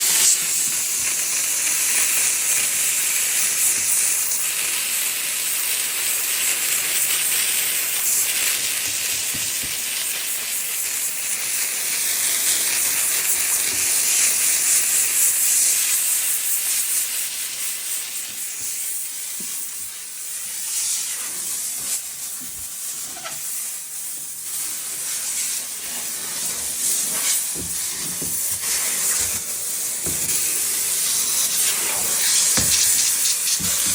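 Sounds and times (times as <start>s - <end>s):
hissing cleaning spray: 0.0s - 33.9s.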